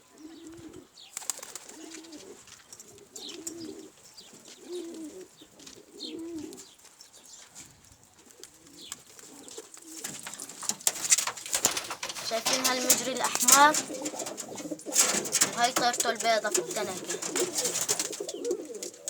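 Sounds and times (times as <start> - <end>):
pigeons cooing: 0.0 - 6.8, 7.6 - 19.0.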